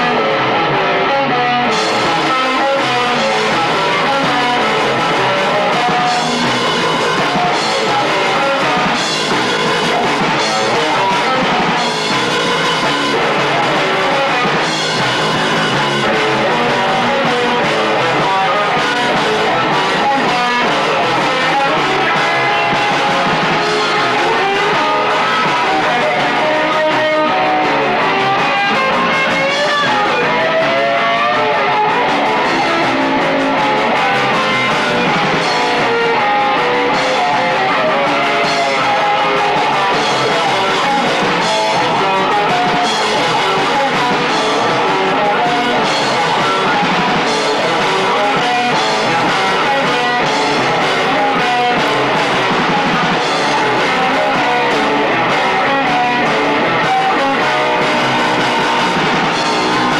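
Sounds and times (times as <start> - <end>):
punk rock band playing: 0.0 - 59.9.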